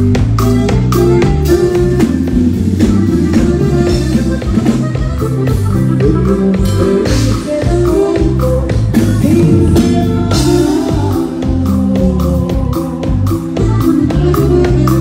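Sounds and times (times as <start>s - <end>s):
drum kit beat: 0.0s - 15.0s
live band playing: 0.0s - 15.0s.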